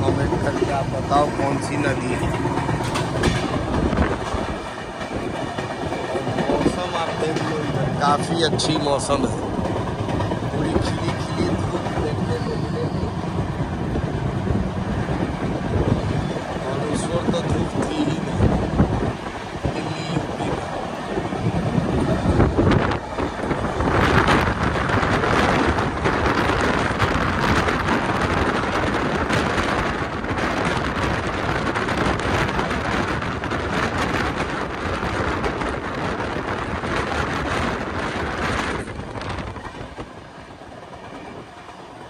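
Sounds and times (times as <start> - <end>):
train wheels rumbling on rails: 0.0 - 42.0
wind buffeting microphone: 0.0 - 42.0.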